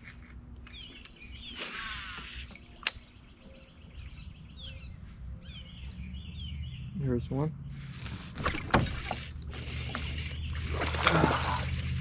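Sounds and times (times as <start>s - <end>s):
small birds chirping: 0.0s - 8.4s, 9.0s - 12.0s.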